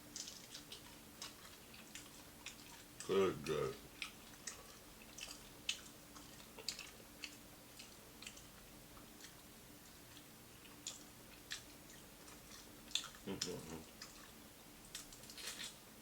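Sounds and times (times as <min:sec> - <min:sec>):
chewing crispy food: 0:00.0 - 0:16.0.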